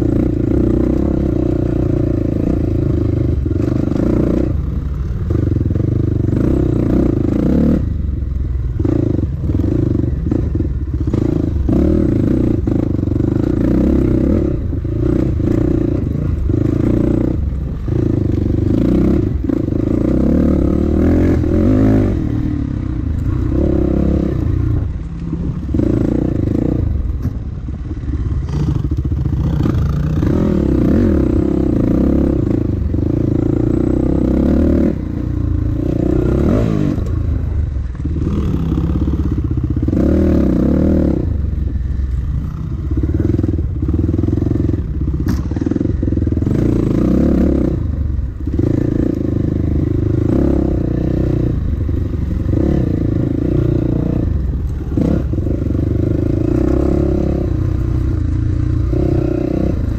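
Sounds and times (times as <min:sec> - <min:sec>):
dirt bike engine revving: 0:00.0 - 0:08.0, 0:08.7 - 0:27.1, 0:27.7 - 0:59.9.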